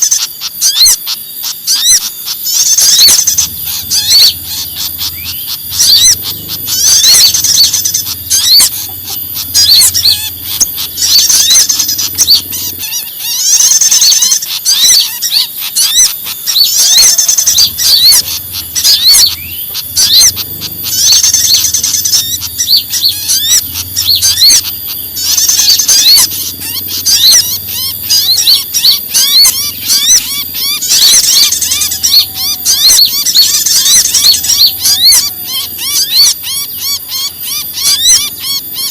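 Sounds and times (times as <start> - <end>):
songbirds alarm chirping: 0.0 - 38.9.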